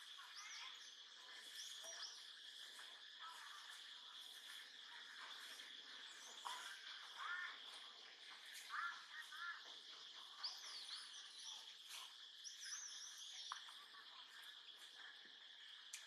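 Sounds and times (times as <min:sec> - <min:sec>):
short chirping calls: 0:00.0 - 0:07.8, 0:08.4 - 0:16.0
insect drone: 0:00.0 - 0:16.0.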